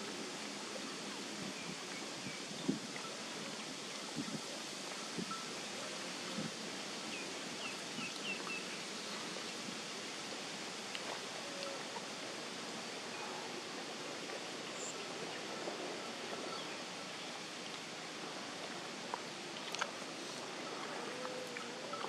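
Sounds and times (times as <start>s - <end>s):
outdoor ambient hiss: 0.0s - 22.0s.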